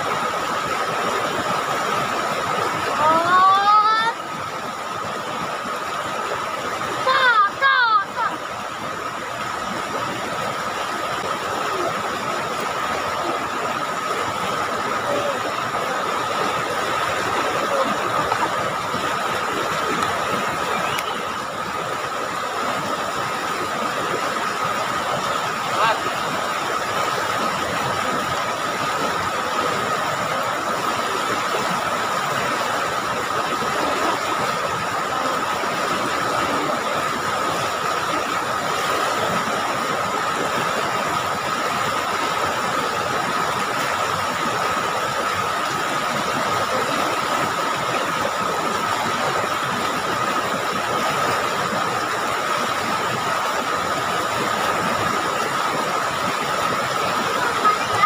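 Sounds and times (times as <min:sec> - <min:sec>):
river rapids rushing over rocks: 0:00.0 - 0:58.0.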